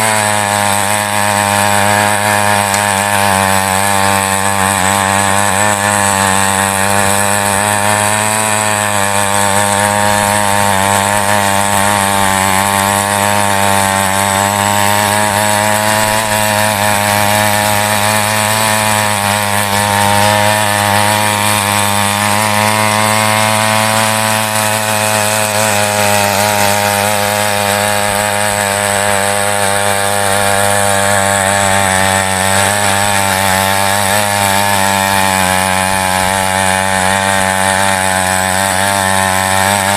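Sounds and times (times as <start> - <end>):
small petrol engine running: 0.0 - 39.9
tines churning dry soil: 0.0 - 39.9.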